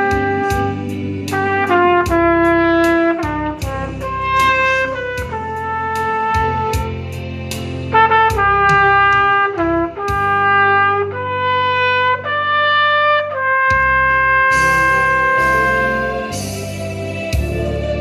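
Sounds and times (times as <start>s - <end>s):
backing track: 0.0s - 18.0s
trumpet playing slow melody: 0.0s - 18.0s.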